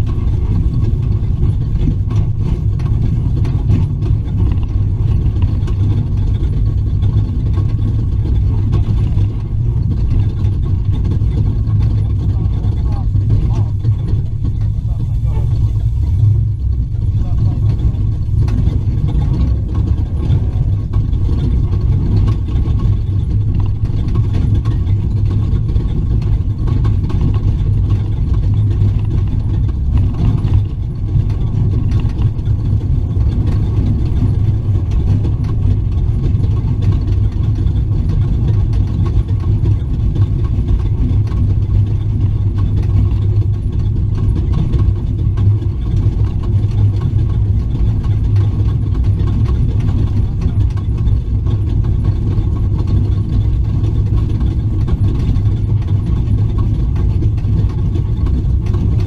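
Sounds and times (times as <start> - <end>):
truck engine and chassis noise: 0.0 - 59.0.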